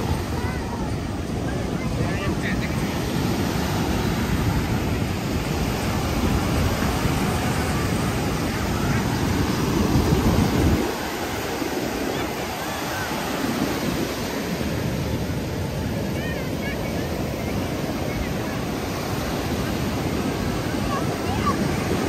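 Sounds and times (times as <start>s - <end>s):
ocean surf washing onto beach: 0.0s - 22.0s
wind buffeting microphone: 0.0s - 22.0s.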